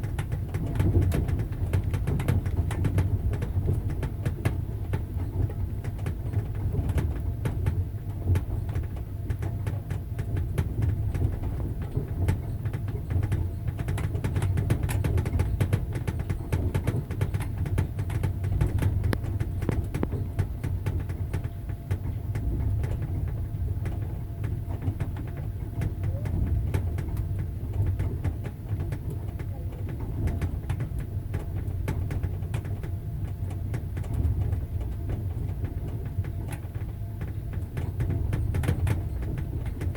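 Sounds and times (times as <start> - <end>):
train rumbling: 0.0 - 39.9
wheels clacking over rail joints: 0.0 - 39.9.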